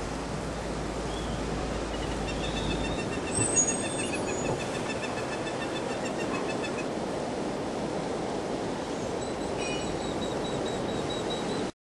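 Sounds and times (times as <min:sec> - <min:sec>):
rushing outdoor ambient noise: 0:00.0 - 0:11.7.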